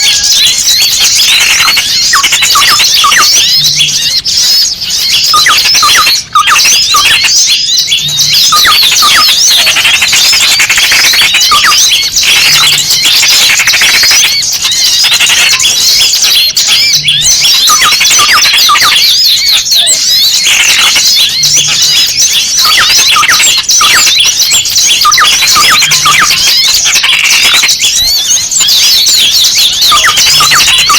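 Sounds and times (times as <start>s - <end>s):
small birds chirping noisily: 0.0s - 30.9s.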